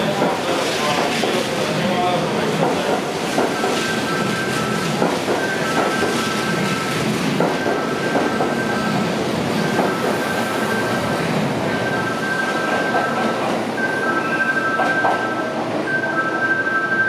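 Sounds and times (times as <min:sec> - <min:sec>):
train wheels rumbling on rail: 0:00.0 - 0:16.2.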